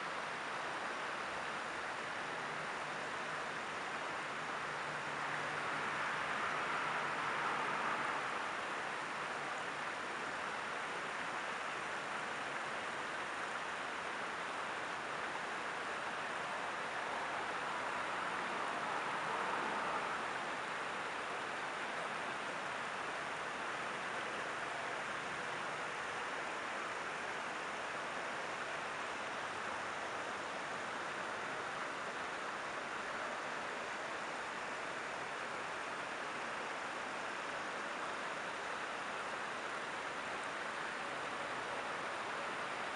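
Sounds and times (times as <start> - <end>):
creek water rushing over a ledge: 0.0 - 42.9.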